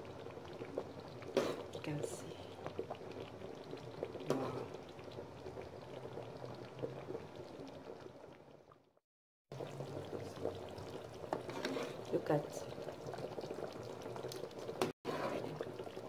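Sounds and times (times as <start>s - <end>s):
soup bubbling in a pot: 0.0s - 16.0s.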